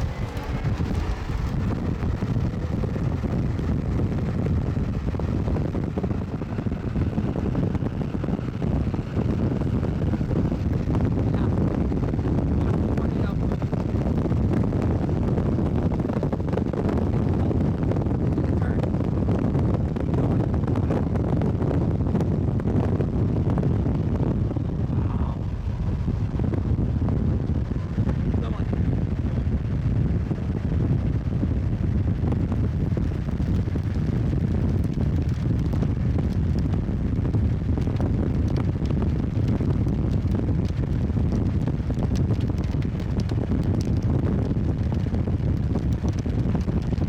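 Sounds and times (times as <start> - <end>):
vehicle driving rumble: 0.0 - 47.0
wind buffeting microphone: 0.0 - 47.0.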